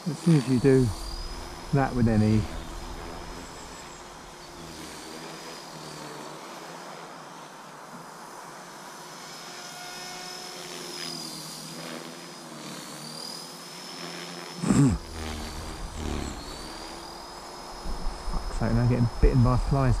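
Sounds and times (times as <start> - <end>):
helicopter rotor and motor whine: 0.0 - 20.0.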